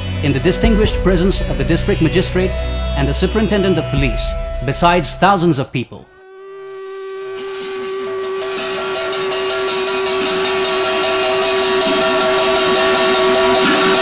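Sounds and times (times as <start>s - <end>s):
steady pitched tone: 0.0s - 14.0s.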